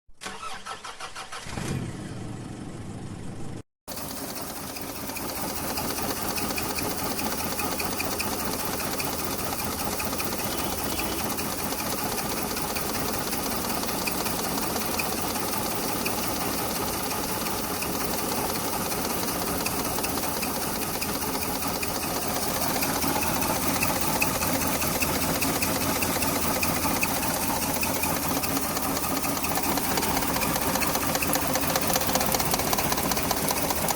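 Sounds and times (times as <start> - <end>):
car engine misfiring: 0.2 - 1.9, 4.0 - 33.9.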